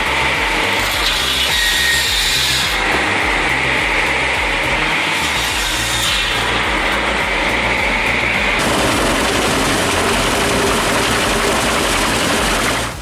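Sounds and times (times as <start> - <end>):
wood chipper engine drone: 0.0 - 13.0.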